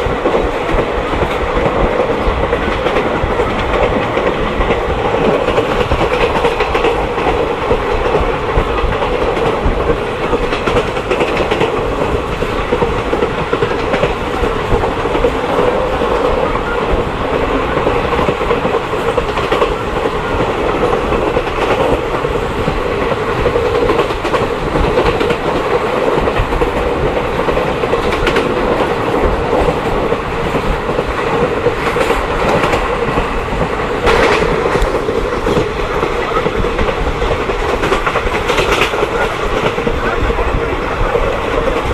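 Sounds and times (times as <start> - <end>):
train wheels on track: 0.0 - 41.9.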